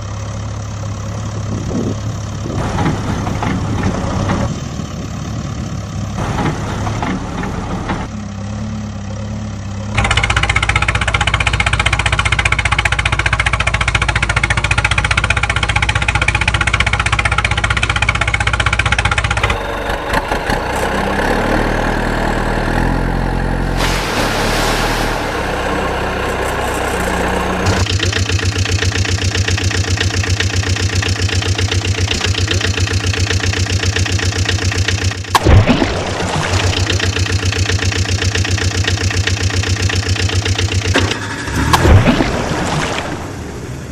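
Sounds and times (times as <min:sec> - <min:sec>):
vehicle engine idling: 0:00.0 - 0:23.8, 0:25.1 - 0:41.8.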